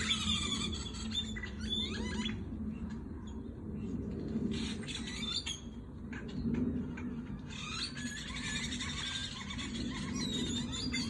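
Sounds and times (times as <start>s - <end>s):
flock of birds chirping: 0.0s - 11.0s
steady low rumble: 0.0s - 11.0s.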